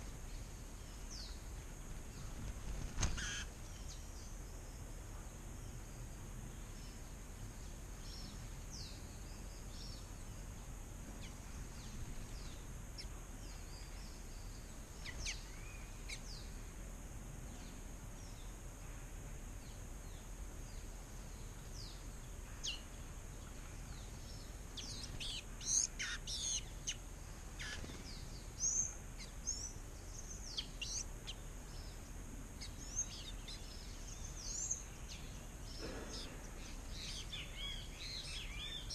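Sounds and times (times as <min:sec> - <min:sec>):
high background hiss: 0:00.0 - 0:38.9
songbirds chirping: 0:00.0 - 0:38.9.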